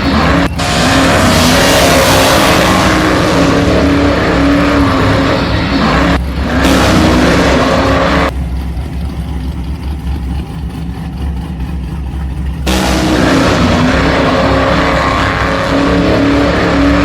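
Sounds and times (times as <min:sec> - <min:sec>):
vehicle motor running: 0:00.0 - 0:17.0.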